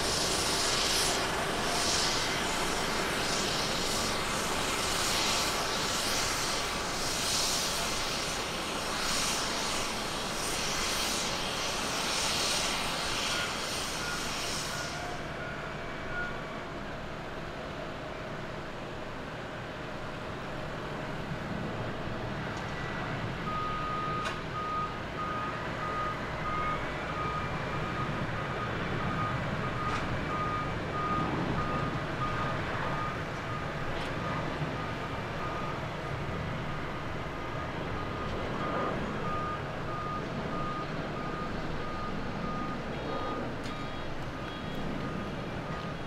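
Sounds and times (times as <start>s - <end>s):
jet engines at takeoff power: 0.0s - 46.0s.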